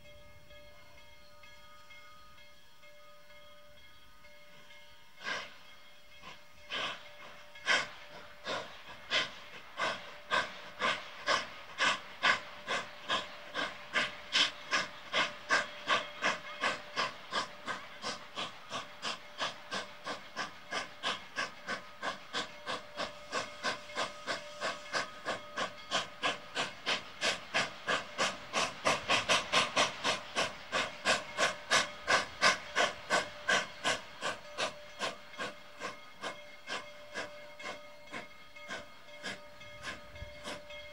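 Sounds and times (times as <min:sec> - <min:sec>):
steam locomotive exhaust chuffs: 0:00.0 - 0:40.9
steam hissing: 0:04.1 - 0:40.9.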